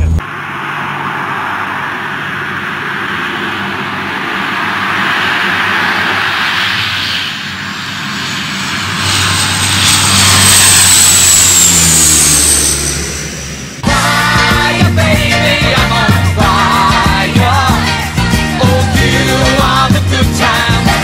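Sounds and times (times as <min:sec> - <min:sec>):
high thin whine: 0:00.0 - 0:21.0
turboprop engines drone overhead: 0:00.0 - 0:21.0.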